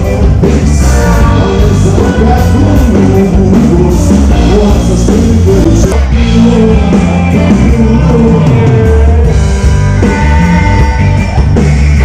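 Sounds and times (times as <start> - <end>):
person singing: 0.0 - 11.6
bass: 0.0 - 12.0
drums: 0.0 - 12.0
electric guitars: 0.0 - 12.0
keyboards: 0.0 - 12.0.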